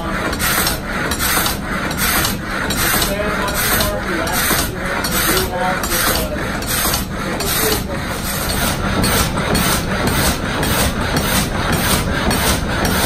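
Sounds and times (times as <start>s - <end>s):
sawmill saw knocking and rasping: 0.0s - 13.0s.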